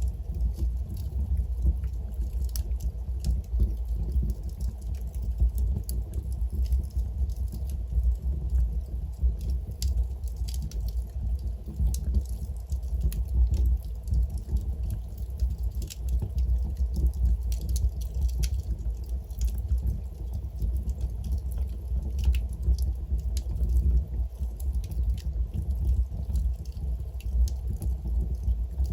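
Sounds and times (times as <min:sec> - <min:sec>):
fire crackling and popping: 0:00.0 - 0:28.9
low rumble of flames: 0:00.0 - 0:28.9.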